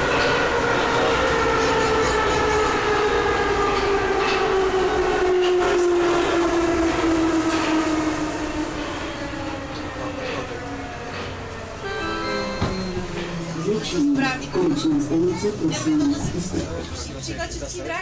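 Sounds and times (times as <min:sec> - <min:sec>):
train traction motor whine: 0:00.0 - 0:16.8
train running rumble: 0:00.0 - 0:18.0.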